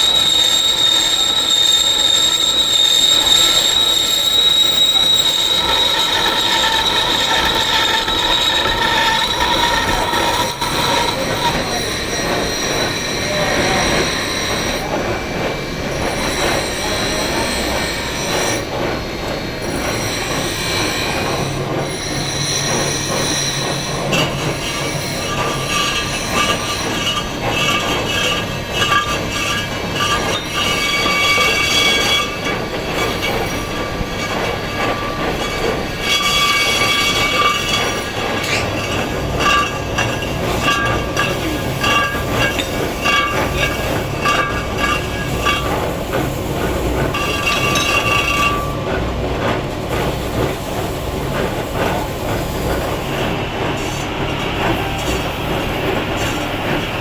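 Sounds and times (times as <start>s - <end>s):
machine with squealing whine: 0.0s - 57.0s.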